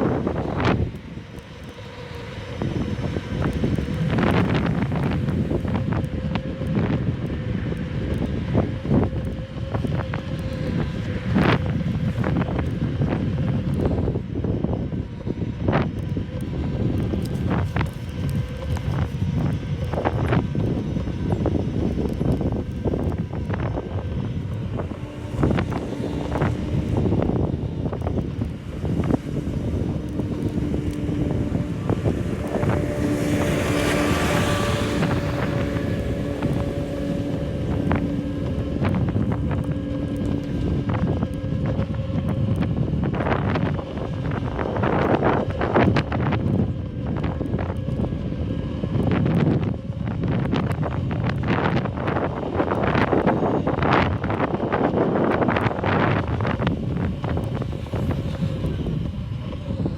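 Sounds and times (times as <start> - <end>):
wind rumbling on microphone: 0.0 - 59.9.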